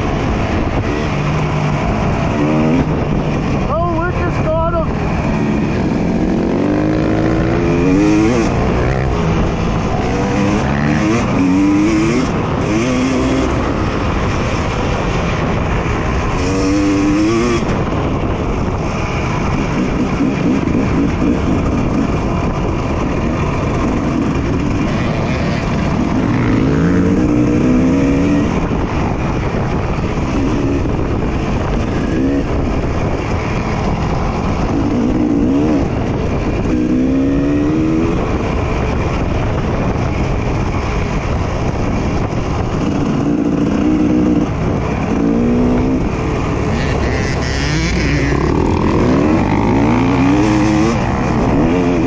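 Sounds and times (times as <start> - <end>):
dirt bike engine revving: 0.0 - 18.1, 18.8 - 38.8, 42.8 - 52.0.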